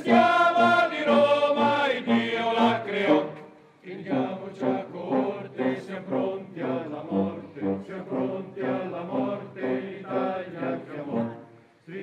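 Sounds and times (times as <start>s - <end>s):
choir singing a slow chant: 0.0s - 12.0s.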